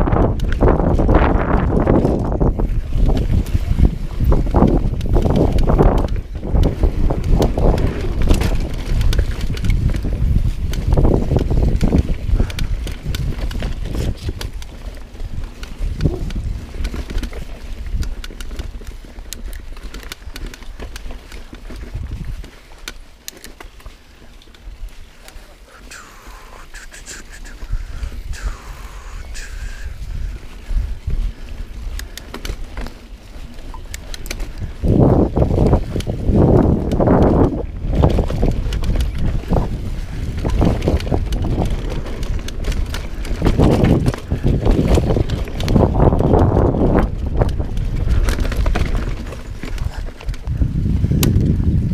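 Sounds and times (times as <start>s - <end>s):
wind buffeting microphone: 0.0s - 22.8s, 24.7s - 51.9s
bike clicking and rattling: 0.0s - 51.9s
bike tyres rumbling on dirt: 0.0s - 51.9s.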